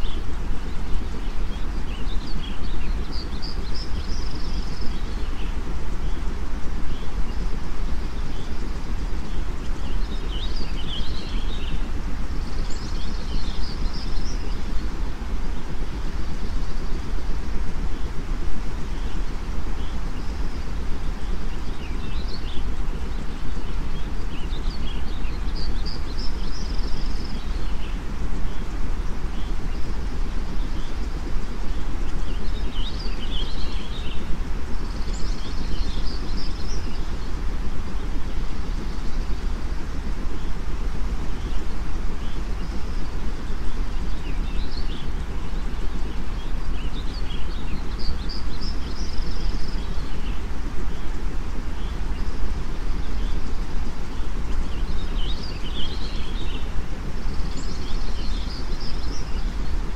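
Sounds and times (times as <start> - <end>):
birds chirping and twittering: 0.0 - 59.9
low white noise: 0.0 - 59.9.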